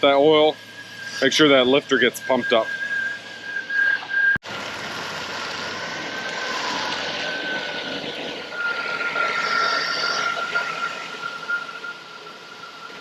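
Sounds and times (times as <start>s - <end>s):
thin high whine: 0.0s - 4.4s, 6.1s - 13.0s.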